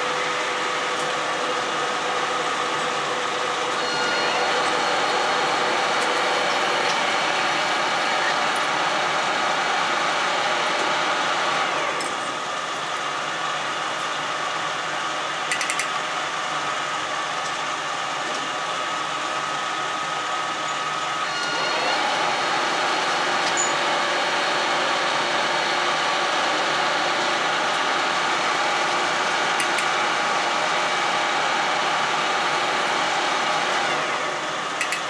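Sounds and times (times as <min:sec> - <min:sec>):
metal lathe running: 0:00.0 - 0:35.0.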